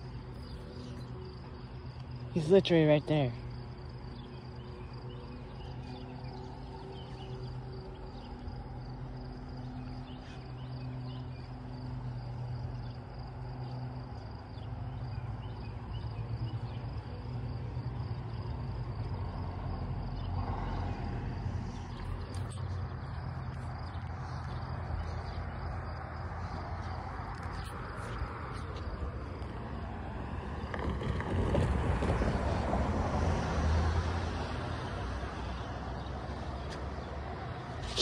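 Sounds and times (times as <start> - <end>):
car approaching: 0.0 - 38.0
insects chirping: 0.0 - 38.0.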